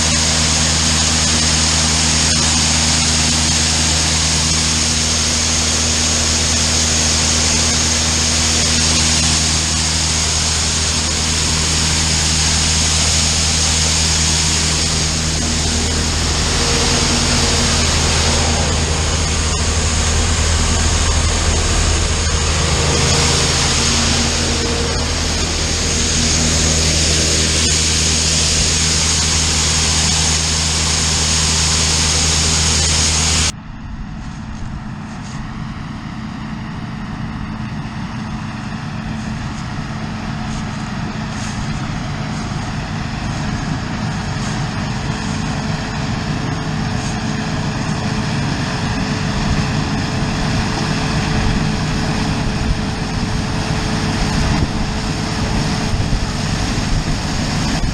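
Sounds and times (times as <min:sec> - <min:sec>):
farm machinery engine drone: 0:00.0 - 0:57.9.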